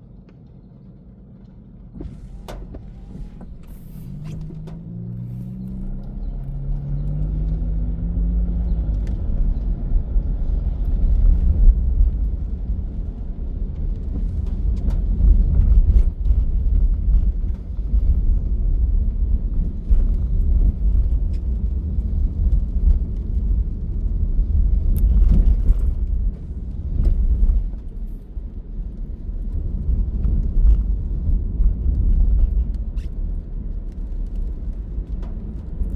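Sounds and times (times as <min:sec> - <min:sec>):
vehicle engine and road noise: 0:00.0 - 0:35.9.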